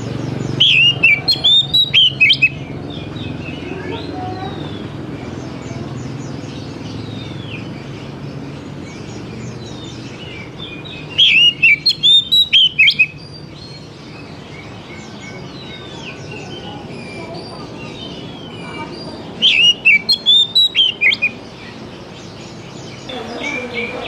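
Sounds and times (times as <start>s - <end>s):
bird singing sharp bending notes: 0.0s - 24.0s
faint birds chirping: 0.0s - 24.0s.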